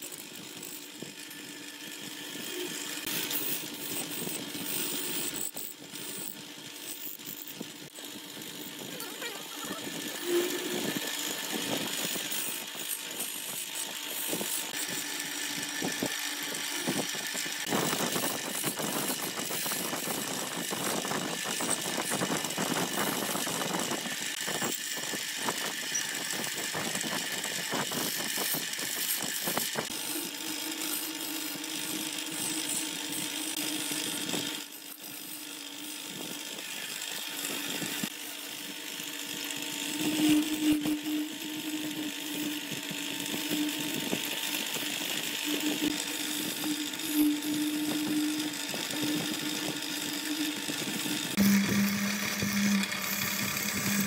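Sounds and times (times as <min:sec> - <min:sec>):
turning tool scraping wood: 0:00.0 - 0:54.0
wood lathe motor humming: 0:00.0 - 0:54.0.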